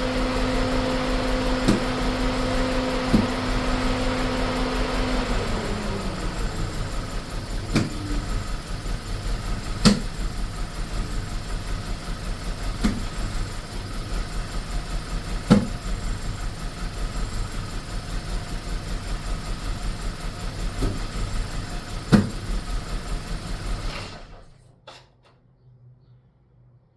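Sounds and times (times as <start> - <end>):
engine misfire knocks: 0.0 - 17.6, 18.4 - 24.4
car engine idling roughly: 0.0 - 24.5.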